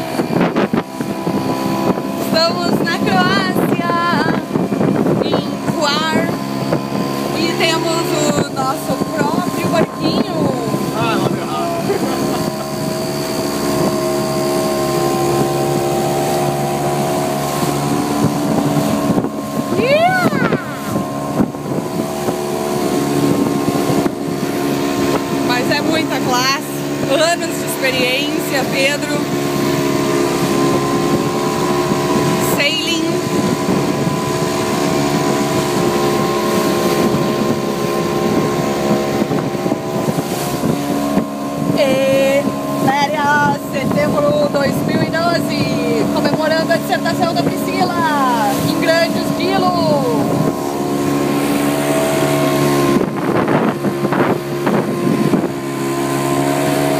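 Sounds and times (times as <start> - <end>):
motorboat engine droning: 0.0 - 56.9.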